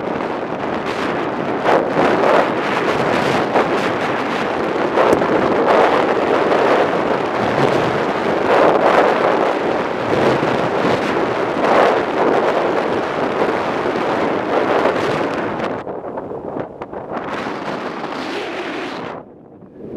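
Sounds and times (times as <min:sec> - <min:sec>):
wind buffeting microphone: 0:00.0 - 0:19.9
skis carving snow: 0:00.3 - 0:15.7, 0:17.2 - 0:19.2.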